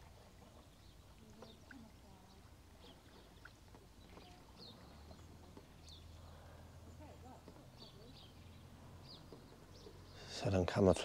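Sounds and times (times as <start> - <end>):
faint bird chirps: 0.3 - 11.0.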